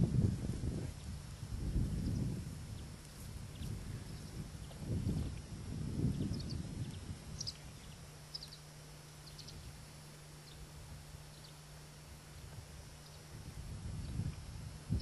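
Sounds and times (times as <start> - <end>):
faint steady low hum: 0.0 - 15.0.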